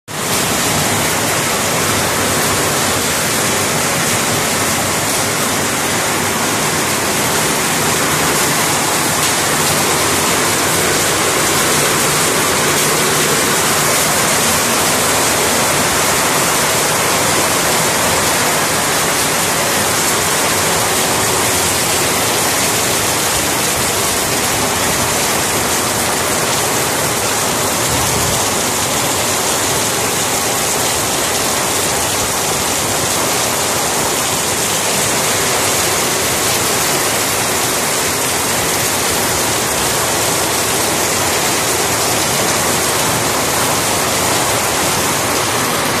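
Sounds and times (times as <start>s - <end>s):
heavy rain on wet road: 0.1s - 46.0s.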